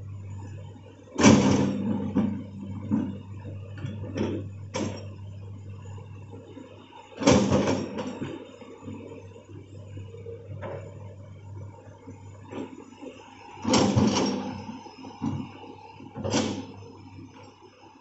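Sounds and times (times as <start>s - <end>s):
diesel engine droning: 0.0s - 6.6s, 8.8s - 17.4s.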